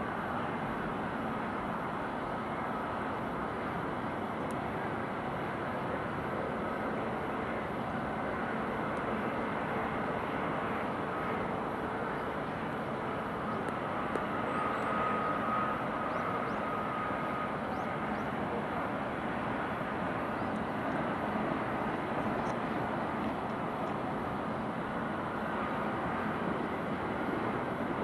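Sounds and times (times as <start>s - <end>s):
distant rail noise: 0.0s - 28.0s
distant traffic: 0.0s - 28.0s
faint high whine: 0.0s - 28.0s.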